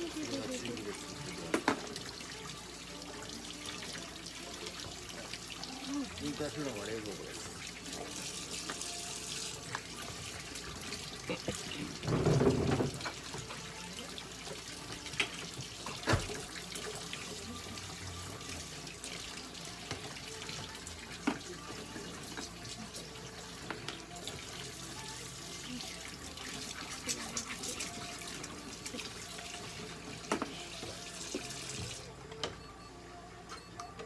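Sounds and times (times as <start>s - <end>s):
tap water running into sink: 0.0s - 32.1s.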